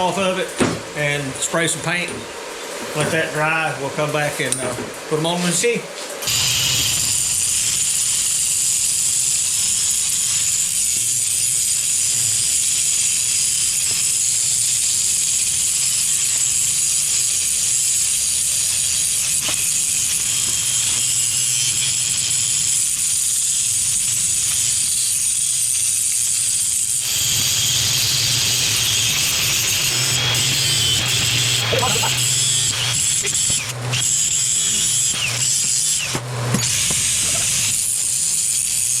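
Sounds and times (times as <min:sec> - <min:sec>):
angle grinder grinding steel: 0:06.2 - 0:39.0.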